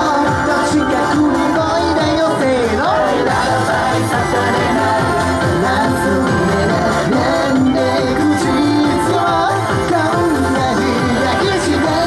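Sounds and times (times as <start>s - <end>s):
person singing into a microphone: 0.0s - 12.0s
pop backing track: 0.0s - 12.0s.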